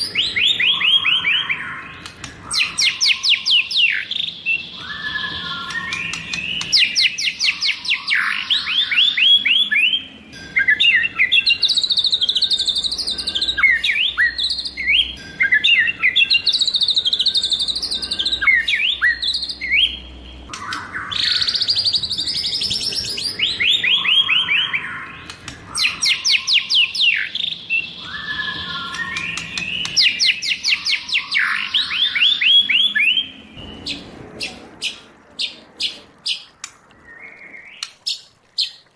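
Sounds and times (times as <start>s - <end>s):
bird singing whistles and trills: 0.0s - 38.8s.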